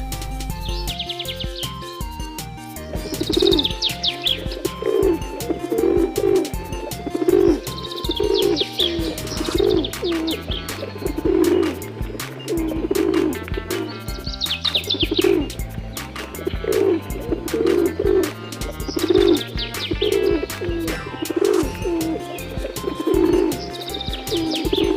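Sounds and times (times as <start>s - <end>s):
high chirps: 0.0s - 24.9s
pigeons cooing: 0.7s - 24.9s.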